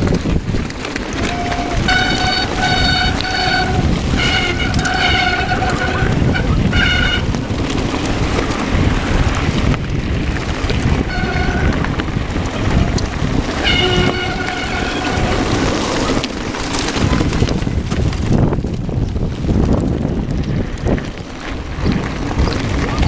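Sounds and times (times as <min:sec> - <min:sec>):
bike rattling on gravel trail: 0:00.0 - 0:23.0
wind buffeting microphone: 0:00.0 - 0:23.0.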